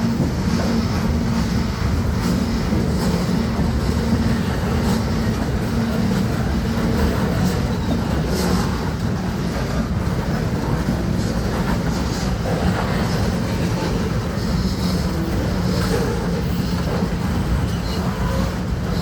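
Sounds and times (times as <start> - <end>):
freight train rumbling past: 0.0 - 19.0
wheels clacking over rail joints: 0.0 - 19.0.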